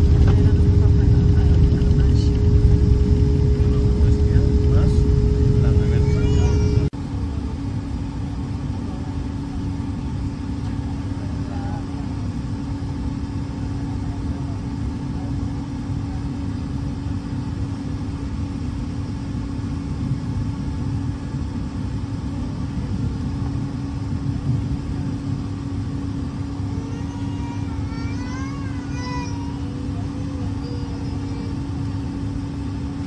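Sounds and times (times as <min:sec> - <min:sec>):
jet cabin engine rumble: 0:00.0 - 0:33.0
steady hum: 0:00.0 - 0:33.0.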